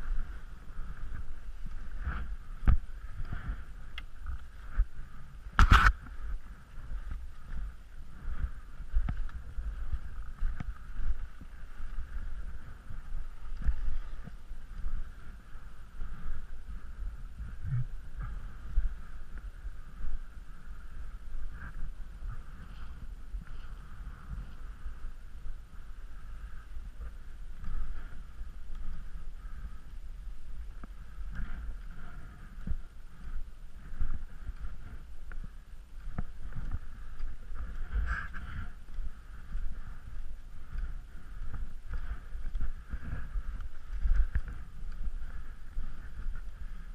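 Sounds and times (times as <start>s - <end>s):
skis sliding over snow: 0.0s - 46.9s
wind buffeting microphone: 0.0s - 46.9s.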